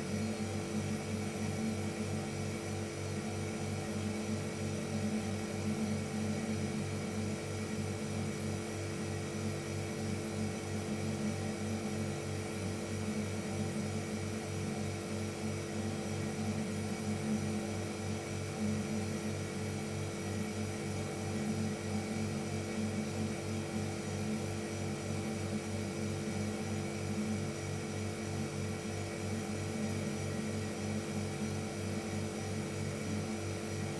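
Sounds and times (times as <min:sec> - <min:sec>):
refrigerator compressor humming: 0:00.0 - 0:33.9.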